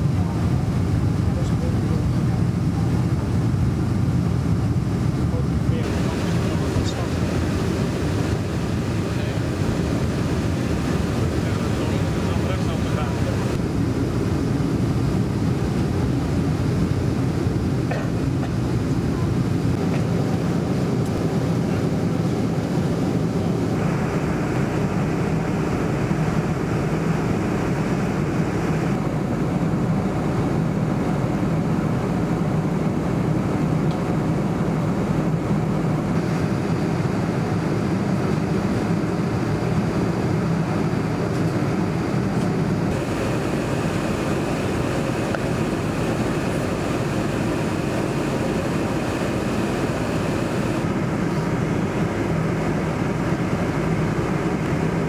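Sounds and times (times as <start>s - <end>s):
jet engines rumbling: 0.0s - 55.0s
rushing air: 3.6s - 18.8s, 19.4s - 31.0s, 34.1s - 55.0s.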